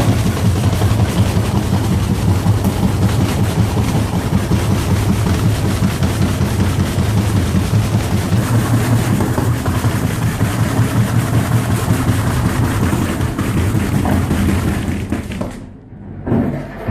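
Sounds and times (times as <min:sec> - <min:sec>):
stone rattling in drum: 0:00.0 - 0:15.7
washing machine spinning: 0:00.0 - 0:16.9.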